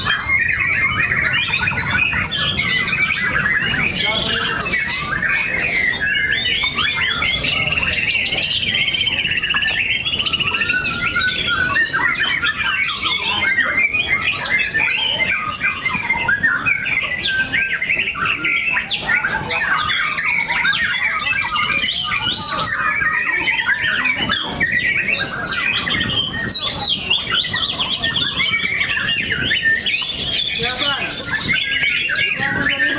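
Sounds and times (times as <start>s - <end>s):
birds singing whistled notes: 0.0s - 32.9s.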